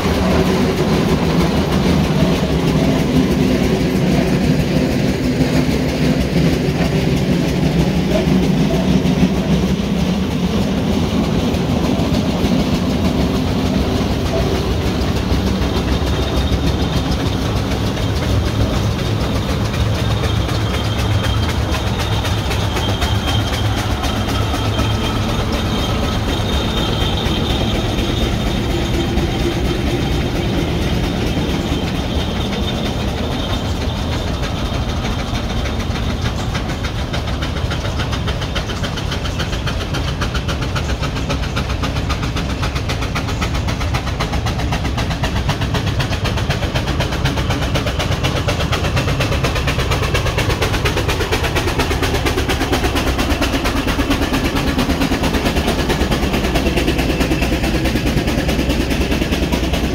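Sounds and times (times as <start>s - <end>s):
steam traction engine rumble: 0.0s - 59.9s.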